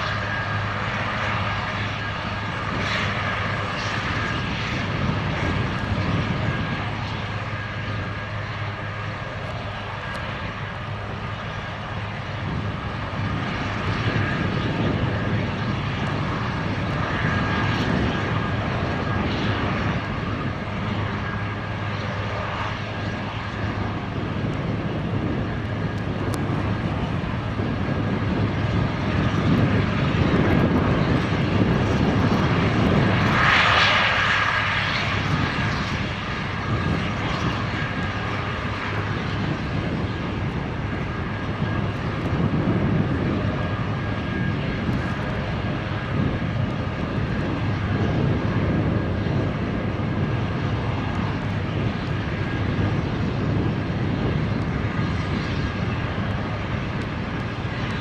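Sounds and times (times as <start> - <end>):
helicopter engines and rotor: 0.0 - 58.0
high turbine whine: 0.0 - 58.0.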